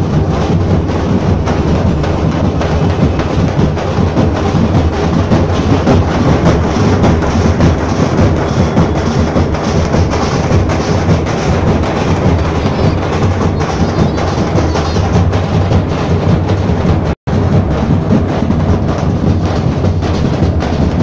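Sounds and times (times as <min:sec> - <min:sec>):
barrel and snare drumming: 0:00.0 - 0:21.0.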